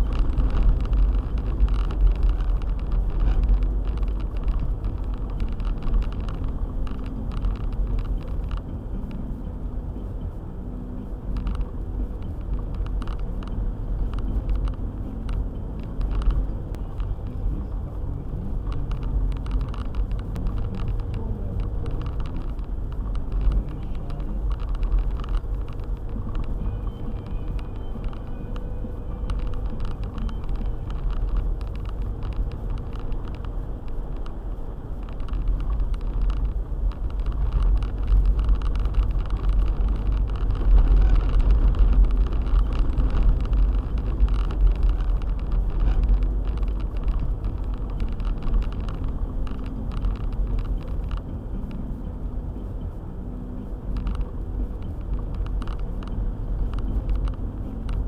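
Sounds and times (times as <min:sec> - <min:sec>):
car engine and tyres rumbling: 0:00.0 - 0:58.0
tyres crackling on snow: 0:00.0 - 0:58.0.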